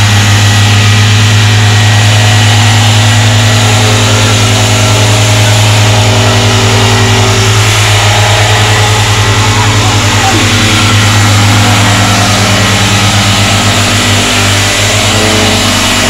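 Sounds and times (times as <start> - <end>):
plate compactor running: 0.0 - 16.0.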